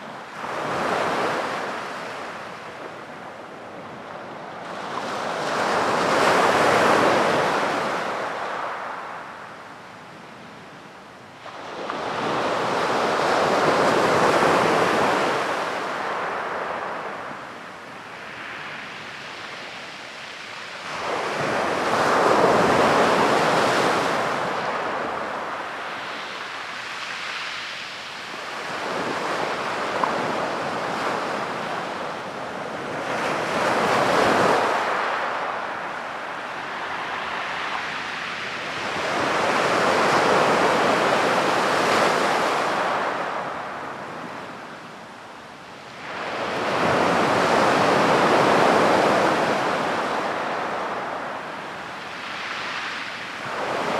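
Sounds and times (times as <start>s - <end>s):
ocean waves breaking on beach: 0.0s - 53.9s.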